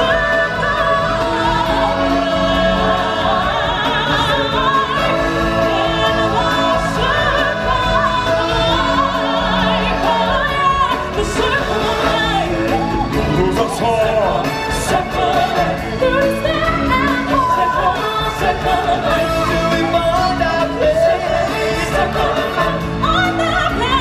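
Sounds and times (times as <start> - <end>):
choir and solo singing: 0.0 - 24.0
orchestra playing: 0.0 - 24.0.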